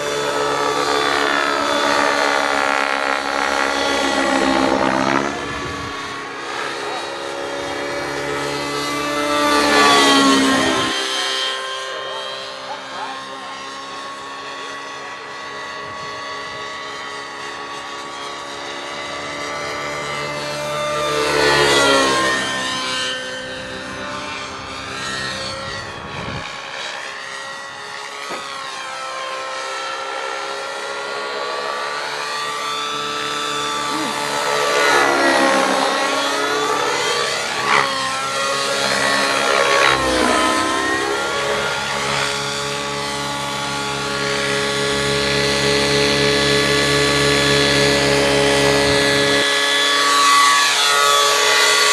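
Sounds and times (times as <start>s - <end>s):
model helicopter rotor whine: 0.0s - 51.9s.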